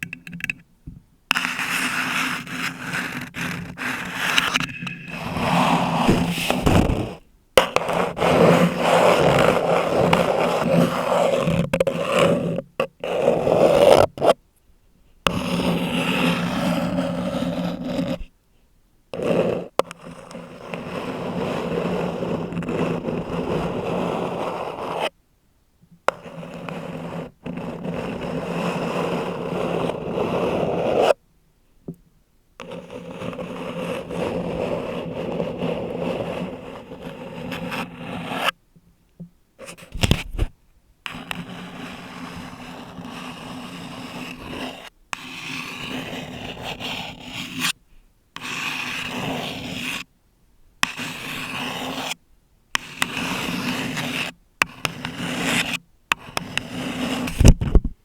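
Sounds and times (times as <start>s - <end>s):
nails scratching microphone: 1.3s - 14.4s, 15.3s - 18.3s, 19.2s - 25.1s, 26.1s - 31.2s, 32.6s - 38.6s, 39.6s - 47.8s, 52.8s - 58.0s
nails scratching paper cup: 1.3s - 14.4s, 15.3s - 18.3s, 19.2s - 25.1s, 26.1s - 31.2s, 32.6s - 38.6s, 39.6s - 40.5s, 41.1s - 47.8s, 48.4s - 50.1s, 50.8s - 52.2s, 52.8s - 57.9s.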